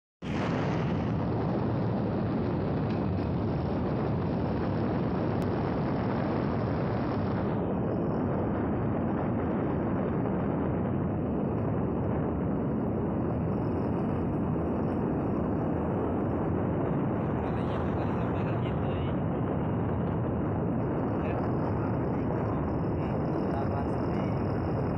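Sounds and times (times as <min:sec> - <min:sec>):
wind buffeting microphone: 0:00.2 - 0:24.9.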